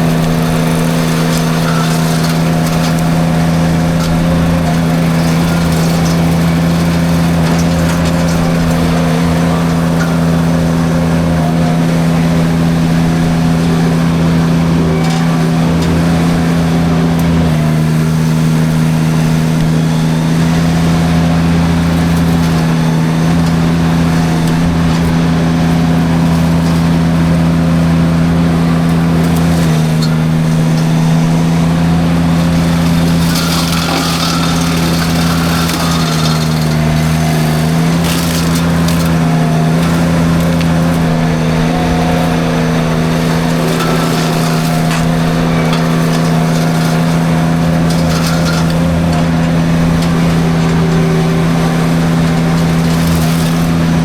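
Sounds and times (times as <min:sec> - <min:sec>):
mulcher shredding brush: 0:00.0 - 0:54.0
skid steer engine running: 0:00.0 - 0:54.0.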